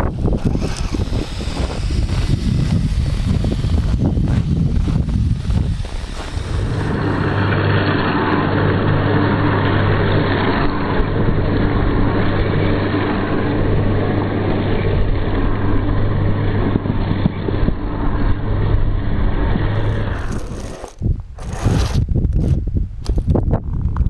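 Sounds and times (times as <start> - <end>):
vehicle running with low hum: 0.0 - 24.0.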